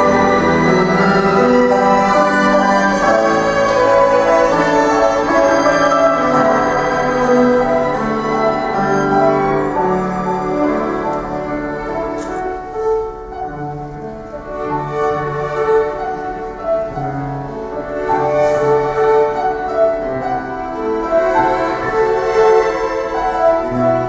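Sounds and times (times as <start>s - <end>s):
string ensemble playing: 0.0s - 24.0s.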